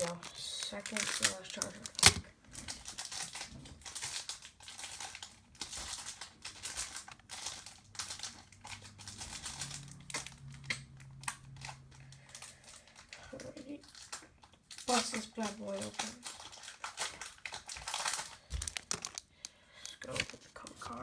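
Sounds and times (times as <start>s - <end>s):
foil wrapper crinkling: 0.0s - 21.0s.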